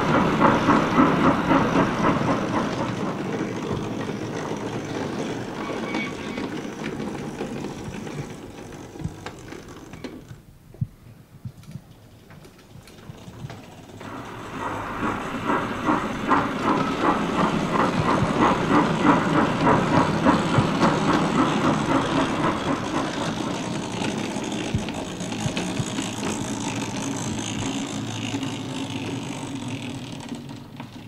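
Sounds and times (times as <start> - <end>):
model locomotive clattering: 0.0 - 10.4, 11.5 - 31.0.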